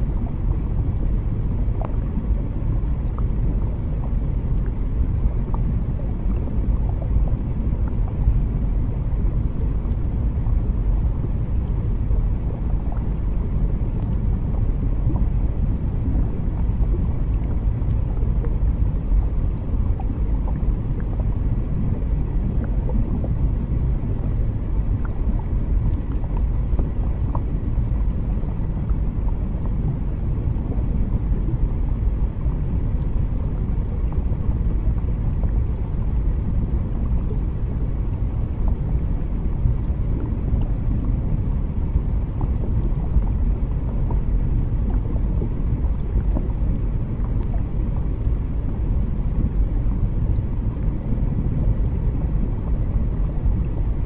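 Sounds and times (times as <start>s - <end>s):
deep underwater rumble: 0.0s - 54.0s.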